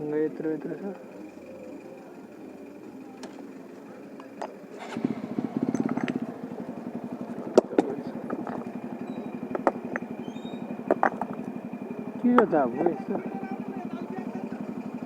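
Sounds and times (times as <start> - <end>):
motorcycle engine thumping: 1.0 - 15.0.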